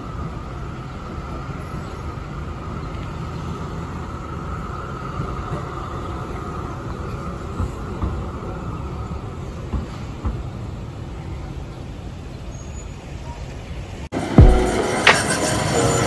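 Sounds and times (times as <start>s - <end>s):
tram rolling on tracks: 0.0s - 16.0s.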